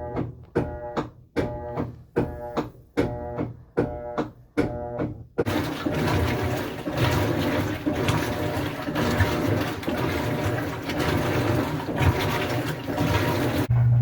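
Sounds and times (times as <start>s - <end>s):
washing machine water sloshing: 0.0s - 13.7s
washing machine low rumble: 0.0s - 14.0s.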